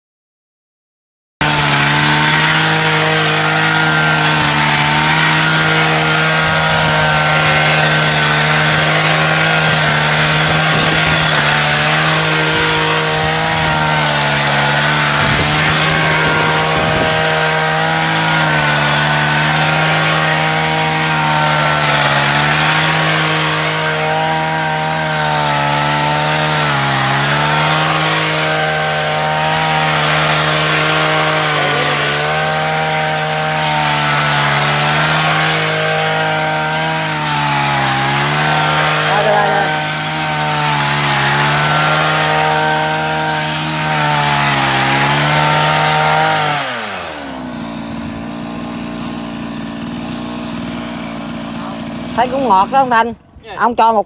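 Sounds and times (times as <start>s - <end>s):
small petrol engine running: 1.4s - 53.1s.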